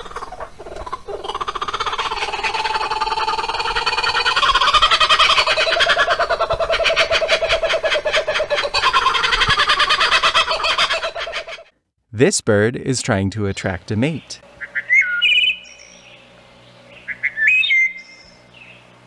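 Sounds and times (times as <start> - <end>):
birdsong chorus: 0.0 - 11.7, 13.2 - 19.0.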